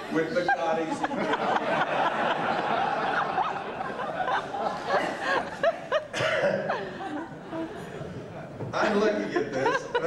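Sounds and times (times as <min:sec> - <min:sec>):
audience laughing: 0:00.2 - 0:07.7, 0:09.2 - 0:10.0.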